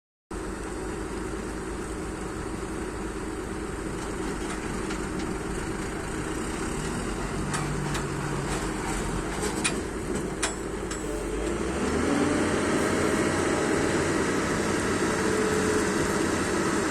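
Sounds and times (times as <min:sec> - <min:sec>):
excavator diesel engine running: 0:00.4 - 0:16.9.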